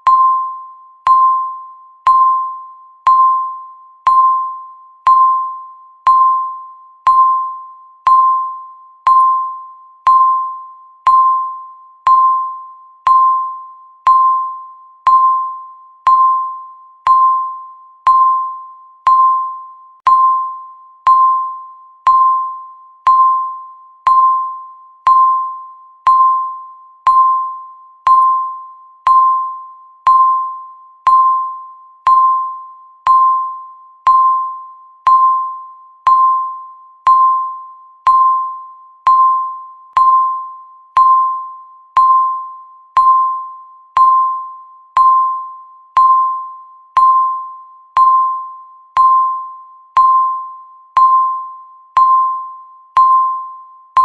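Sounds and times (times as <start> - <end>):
timer beeping: 0.0 - 54.0.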